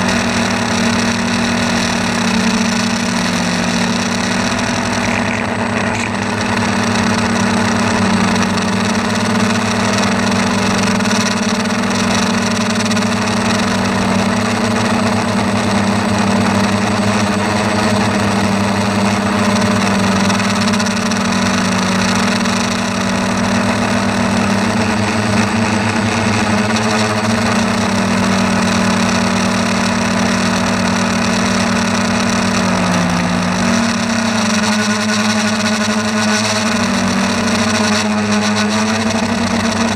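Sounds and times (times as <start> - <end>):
motor humming: 0.0 - 39.9.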